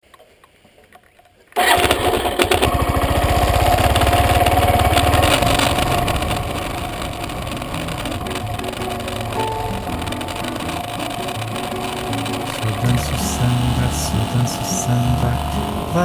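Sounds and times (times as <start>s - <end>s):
motorcycle engine starting: 1.6s - 16.0s.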